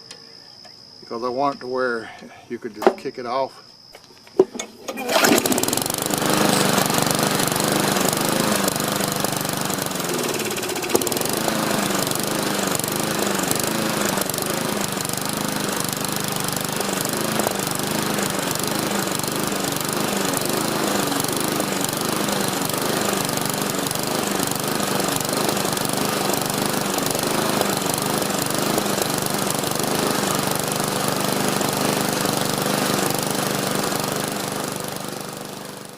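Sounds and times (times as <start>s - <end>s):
lawn mower engine running: 4.4s - 35.9s.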